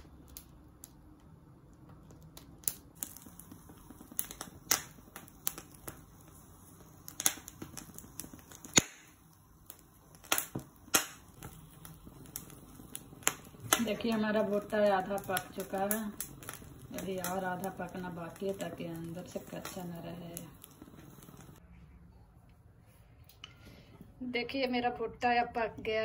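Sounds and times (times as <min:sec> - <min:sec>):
corn kernels popping: 0:00.0 - 0:21.6
gas burner flame: 0:00.0 - 0:21.6.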